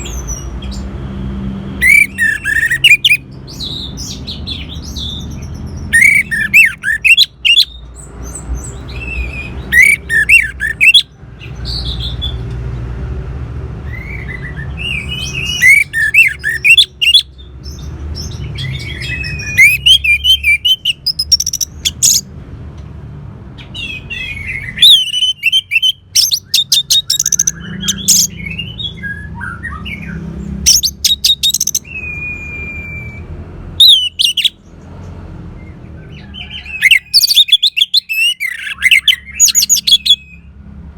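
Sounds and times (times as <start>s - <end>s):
thrush singing whistles and trills: 1.7s - 12.4s, 13.8s - 22.3s, 23.6s - 34.8s, 35.5s - 40.6s.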